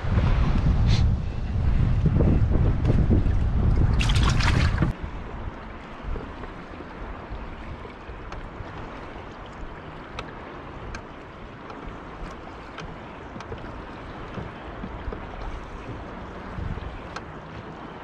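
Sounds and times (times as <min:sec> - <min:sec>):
water lapping against boat: 0:00.0 - 0:18.0
wind buffeting microphone: 0:00.0 - 0:18.0.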